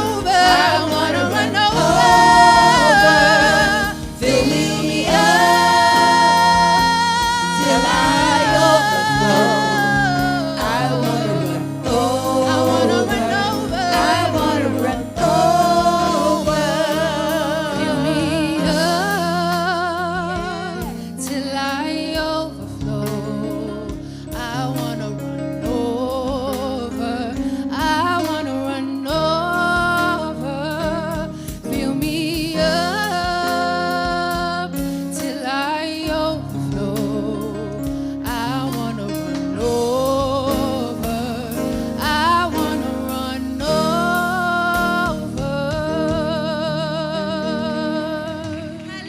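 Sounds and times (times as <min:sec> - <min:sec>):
gospel singing: 0:00.0 - 0:25.2, 0:25.8 - 0:49.0
instrumental backing: 0:00.0 - 0:49.0.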